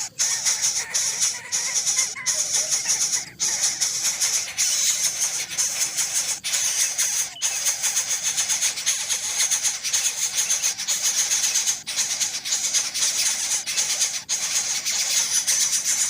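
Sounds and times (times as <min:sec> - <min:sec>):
bird chattering and begging calls: 0:00.0 - 0:16.0.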